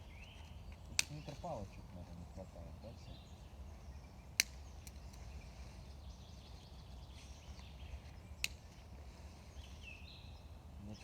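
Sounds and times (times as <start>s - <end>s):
faint birdsong: 0.0s - 11.0s
low outdoor background: 0.0s - 11.0s.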